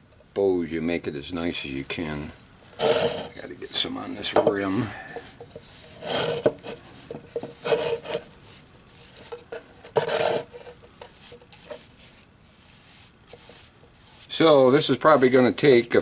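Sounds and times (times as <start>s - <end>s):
rubbing strokes on wood: 2.8s - 16.0s.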